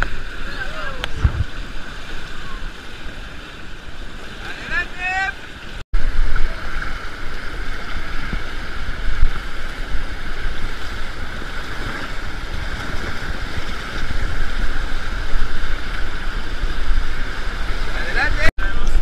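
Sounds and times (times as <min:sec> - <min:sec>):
wind rumbling on microphone: 0:00.0 - 0:04.4, 0:05.7 - 0:19.0
whitewater river rushing: 0:00.0 - 0:19.0.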